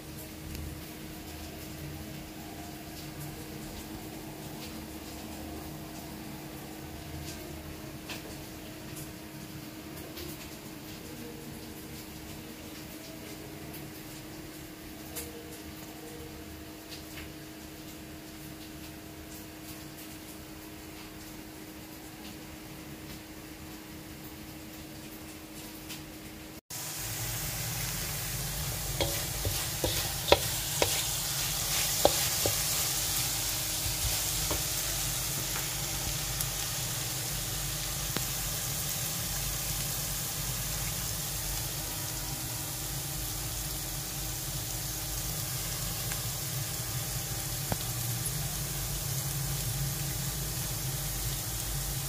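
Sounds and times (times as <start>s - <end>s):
frying sizzle in a wok: 0.0s - 52.0s.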